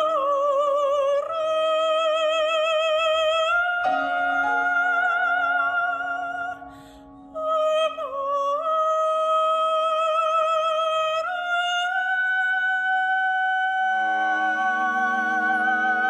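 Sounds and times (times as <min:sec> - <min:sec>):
soprano singing: 0:00.0 - 0:16.0.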